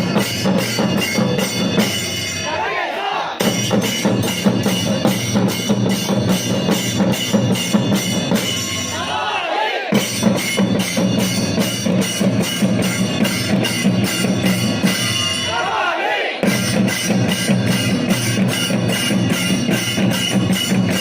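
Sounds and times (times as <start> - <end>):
drum and cymbal strokes: 0.0 - 2.6, 3.4 - 9.2, 9.9 - 15.8, 16.4 - 21.0.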